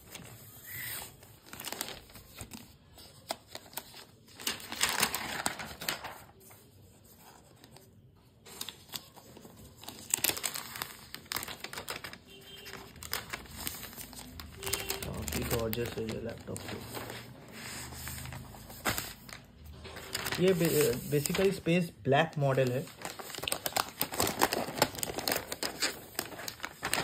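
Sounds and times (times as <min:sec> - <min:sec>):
plastic wrap crinkling: 0:00.0 - 0:06.4, 0:08.6 - 0:27.0.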